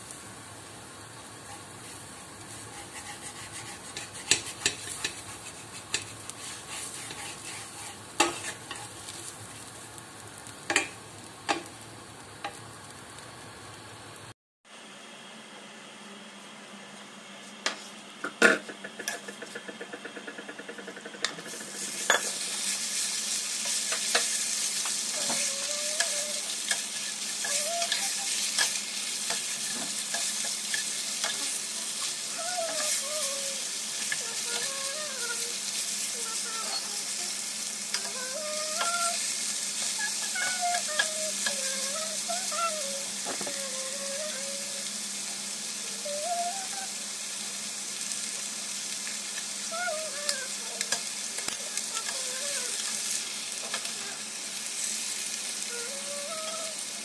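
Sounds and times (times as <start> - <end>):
fish sizzling in hot oil: 0.0 - 14.3, 21.4 - 57.0.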